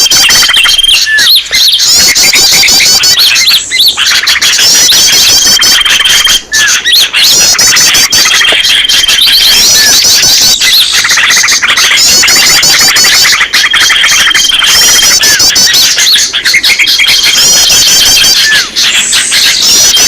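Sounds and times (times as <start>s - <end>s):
flock of small birds chirping: 0.0s - 20.0s.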